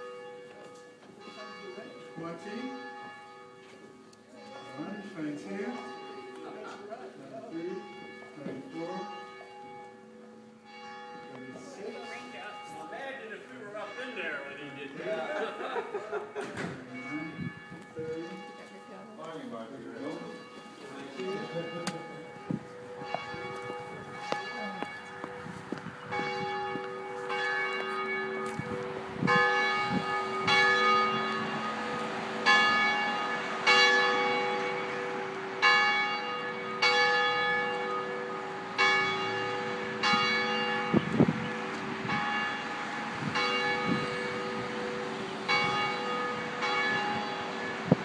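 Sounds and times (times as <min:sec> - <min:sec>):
church bell tolling: 0:00.0 - 0:48.0.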